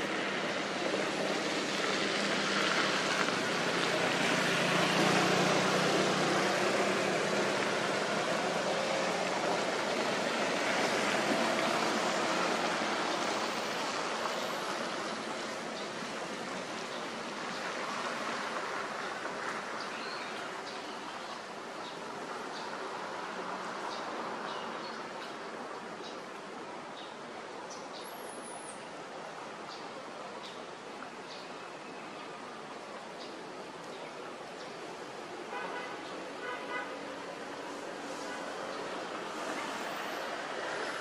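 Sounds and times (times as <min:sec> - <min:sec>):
rushing outdoor background noise: 0:00.0 - 0:41.0.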